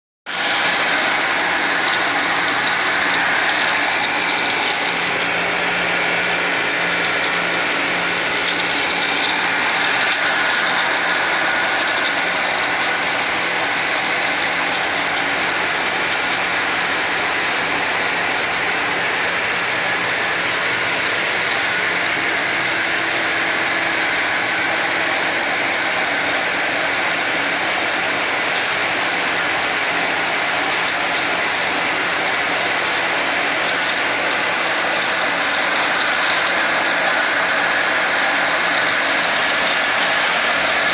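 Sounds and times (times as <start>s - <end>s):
wire saw cutting concrete: 0.3s - 40.9s.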